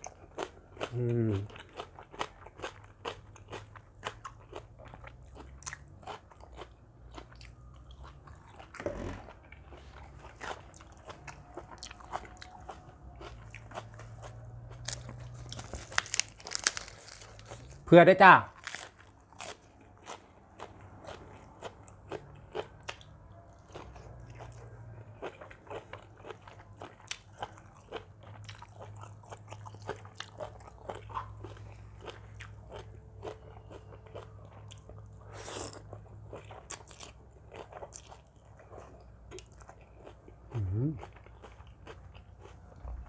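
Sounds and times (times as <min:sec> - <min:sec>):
chewing crunchy food: 0:00.0 - 0:17.9, 0:18.5 - 0:43.0.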